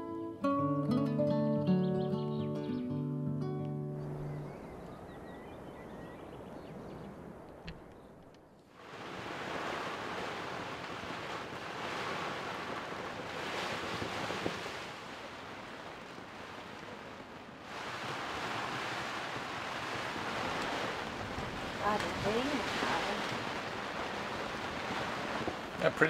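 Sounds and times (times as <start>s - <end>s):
heavy rain and strong wind: 3.9s - 26.0s.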